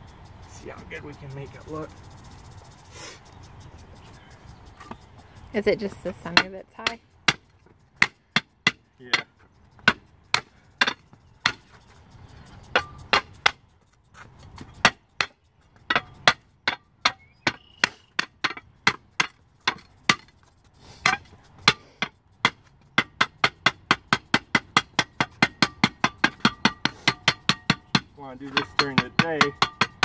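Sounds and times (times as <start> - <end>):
hand tamper pounding: 0.0 - 30.0.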